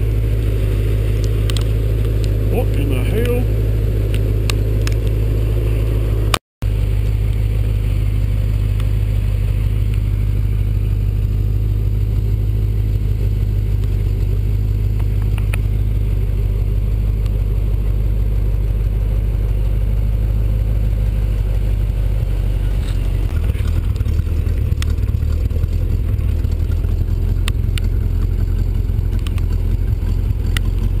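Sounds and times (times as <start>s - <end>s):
engine rumbling: 0.0s - 31.0s.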